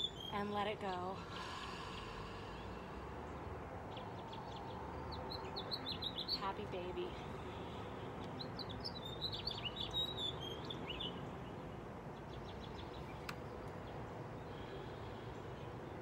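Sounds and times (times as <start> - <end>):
outdoor background noise: 0.0 - 16.0
songbirds chirping: 0.0 - 16.0.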